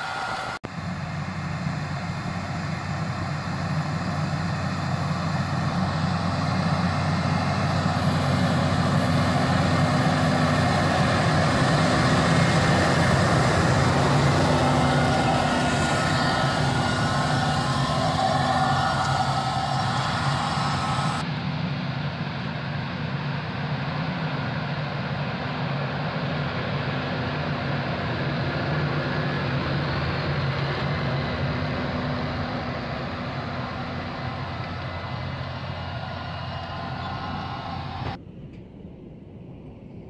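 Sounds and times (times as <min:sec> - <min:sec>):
tractor diesel engine under load: 0:00.0 - 0:38.2.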